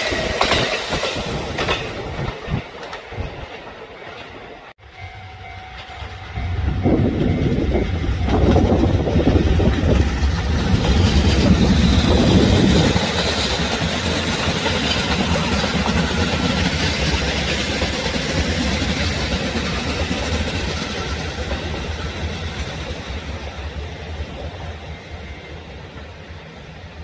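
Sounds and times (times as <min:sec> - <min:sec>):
train running on rails: 0:00.0 - 0:27.0.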